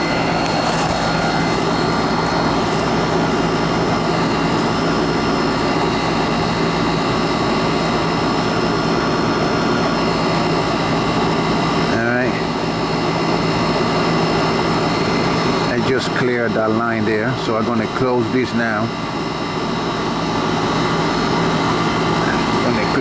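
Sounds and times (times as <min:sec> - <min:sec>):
air conditioner compressor hum: 0:00.0 - 0:23.0
fan air rushing: 0:00.0 - 0:23.0.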